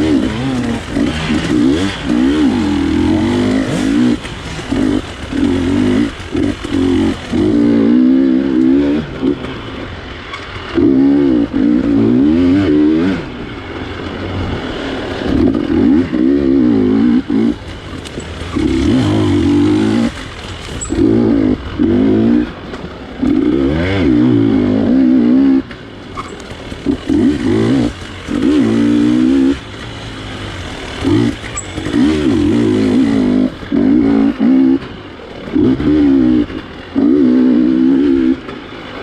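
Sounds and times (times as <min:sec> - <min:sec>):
dirt bike engine revving: 0:00.0 - 0:39.0
motorbike clatter: 0:00.0 - 0:39.0.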